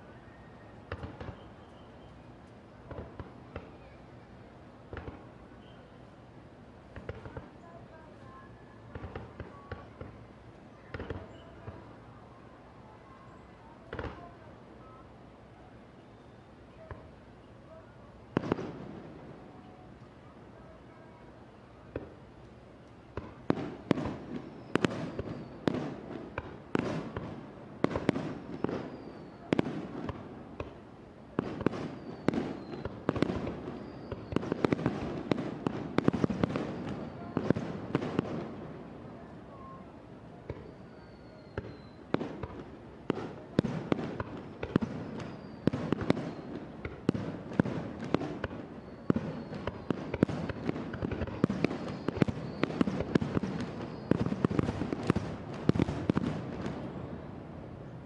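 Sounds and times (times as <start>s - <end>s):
fireworks bursting with crackle: 0.0s - 6.0s, 6.9s - 12.1s, 13.8s - 14.9s, 18.2s - 21.0s, 21.8s - 57.6s
faint fireworks whistles: 0.0s - 58.0s.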